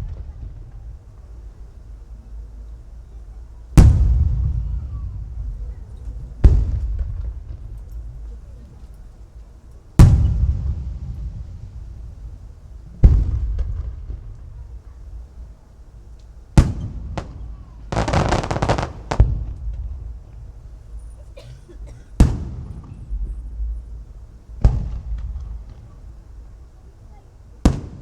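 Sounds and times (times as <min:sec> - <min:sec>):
firework shells booming: 0:00.0 - 0:08.6, 0:09.2 - 0:26.8, 0:27.6 - 0:28.0
rapid firework crackling: 0:00.0 - 0:08.6, 0:10.0 - 0:15.6, 0:16.4 - 0:21.4, 0:22.2 - 0:26.6, 0:27.6 - 0:28.0.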